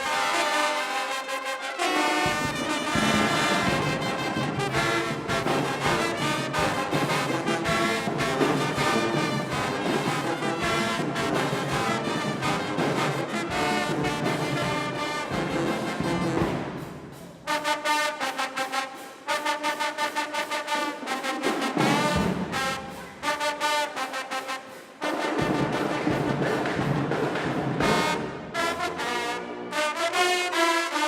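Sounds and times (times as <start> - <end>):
marching band brass: 0.0 - 31.0
punchy brass hits: 0.0 - 31.0
drums beating: 2.1 - 18.0, 19.2 - 29.3.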